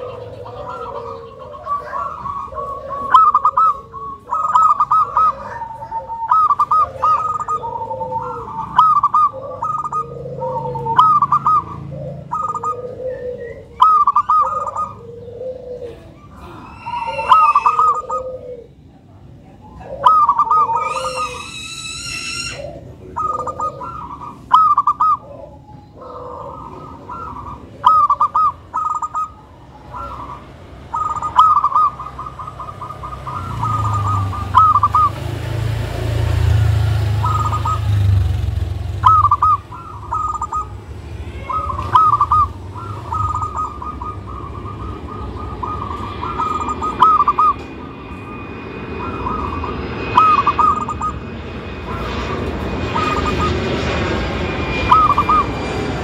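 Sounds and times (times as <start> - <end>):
higher-pitched bird call: 0.0 - 18.8, 19.6 - 35.7, 36.4 - 56.0
doves cooing: 0.0 - 56.0.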